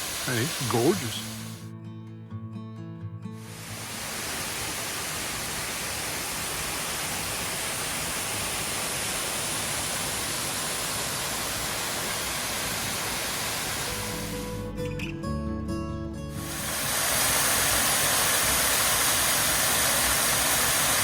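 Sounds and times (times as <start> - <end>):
waterfall rushing: 0.0 - 1.6, 3.5 - 14.4, 16.4 - 21.0.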